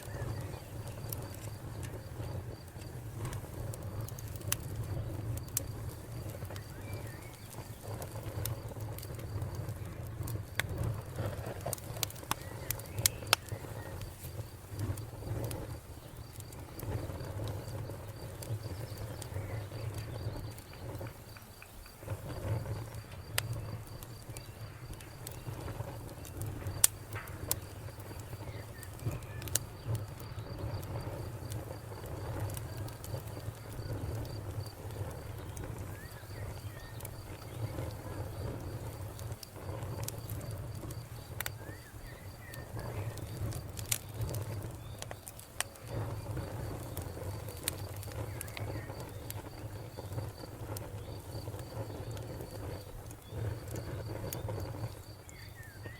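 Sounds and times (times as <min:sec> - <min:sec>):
low rumble of flame: 0:00.0 - 0:55.9
wood fire crackling and popping: 0:00.0 - 0:55.9.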